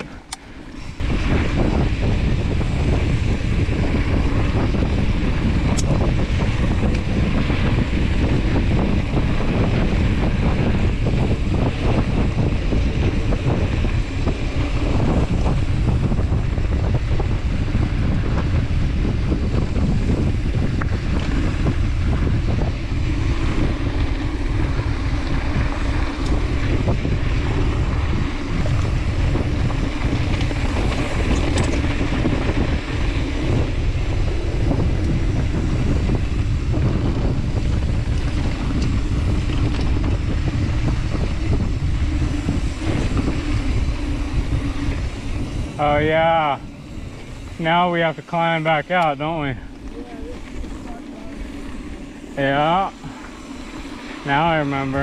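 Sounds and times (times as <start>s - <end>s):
bike clicks and rattles: 0.0s - 55.0s
bike tyres rolling over dirt: 0.0s - 55.0s
wind rumbling on microphone: 0.0s - 55.0s.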